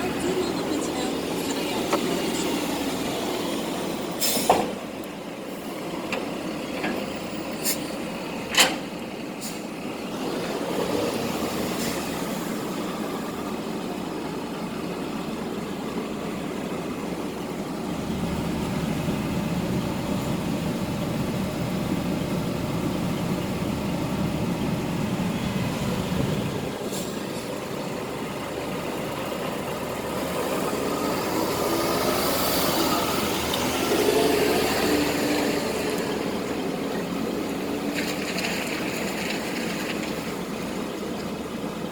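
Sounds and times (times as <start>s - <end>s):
truck diesel engine idling: 0.0s - 10.7s, 11.6s - 41.9s.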